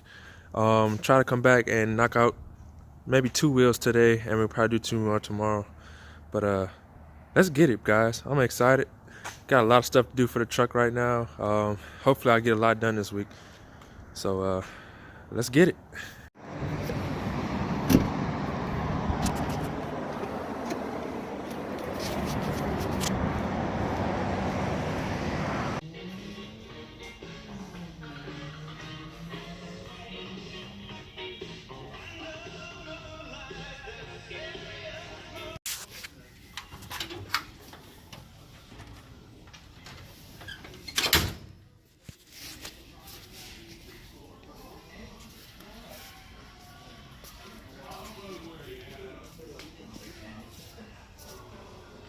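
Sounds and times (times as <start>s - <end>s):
engine and road noise: 0.0s - 32.0s, 42.3s - 52.0s.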